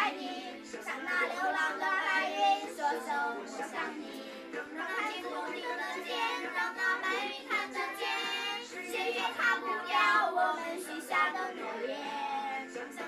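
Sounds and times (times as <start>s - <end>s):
children singing unaccompanied: 0.0s - 13.0s.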